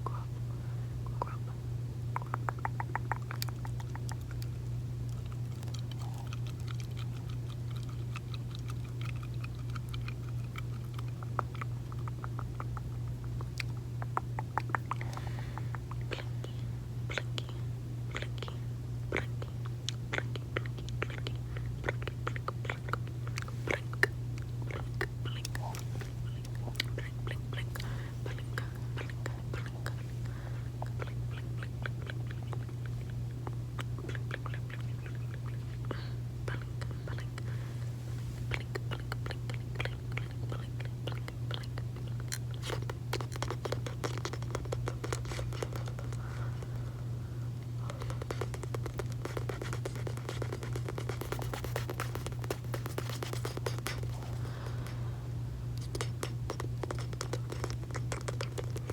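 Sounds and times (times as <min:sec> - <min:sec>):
gum chewing mouth clicks: 0:00.0 - 0:00.4, 0:01.0 - 0:37.6, 0:38.4 - 0:55.0, 0:55.7 - 0:58.9
steady low hum: 0:00.0 - 0:58.9.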